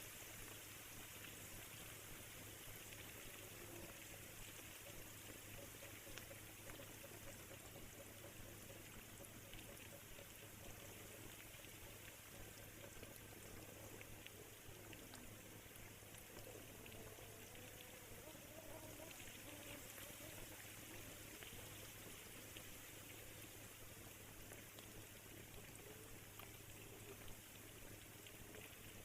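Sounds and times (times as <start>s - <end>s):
faint rain: 0.0s - 29.0s
raindrop ticks: 0.4s - 29.0s.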